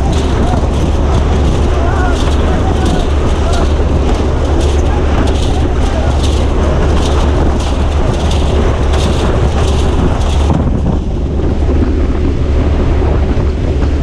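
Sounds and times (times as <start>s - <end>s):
aircraft engines roaring: 0.0s - 14.0s
deep rumble: 0.0s - 14.0s.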